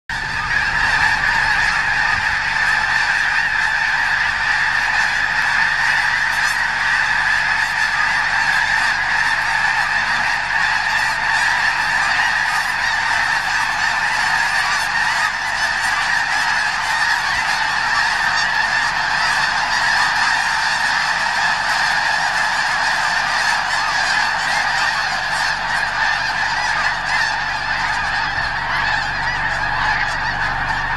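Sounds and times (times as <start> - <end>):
flock of geese honking: 0.1 - 30.9.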